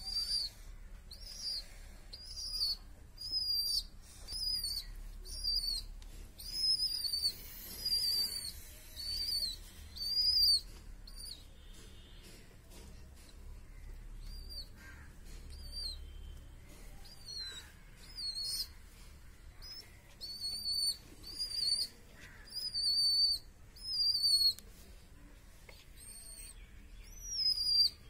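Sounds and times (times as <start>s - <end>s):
baby pigeon squeaking: 0.0s - 24.9s, 25.7s - 28.0s.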